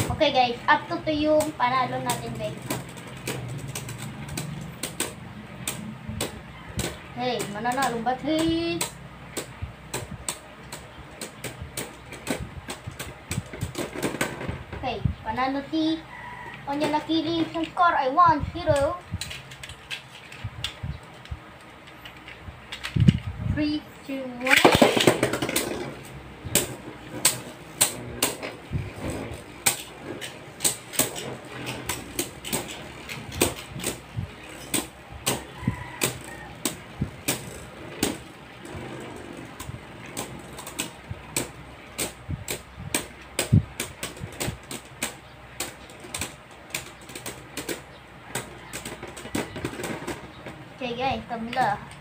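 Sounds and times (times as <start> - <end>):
faint whir of spinning tops: 0.0 - 52.0.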